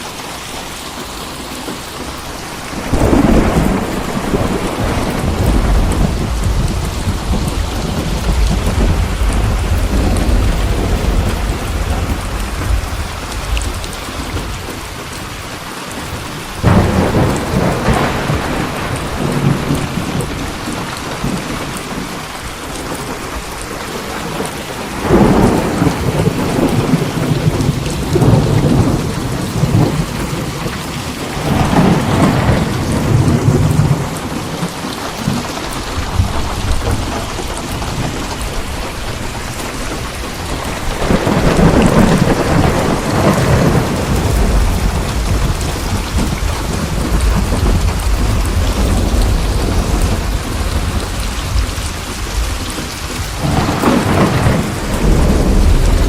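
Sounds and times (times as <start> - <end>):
steady rain: 0.0 - 56.0
rolling thunder: 1.6 - 56.0
sudden thunderclaps: 2.4 - 15.2, 16.1 - 56.0.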